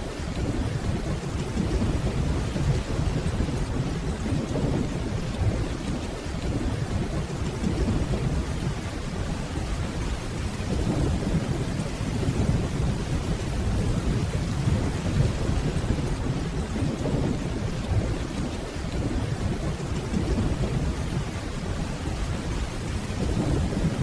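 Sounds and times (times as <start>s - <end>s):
distant rolling thunder: 0.0s - 24.0s
steady rainfall: 0.0s - 24.0s.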